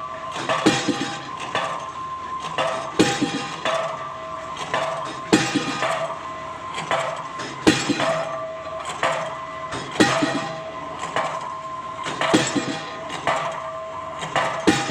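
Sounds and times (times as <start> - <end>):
steady ringing hum: 0.0 - 14.9
pile-driving hammer striking: 0.4 - 1.8, 2.6 - 4.0, 4.6 - 6.2, 6.8 - 11.5, 12.1 - 14.9.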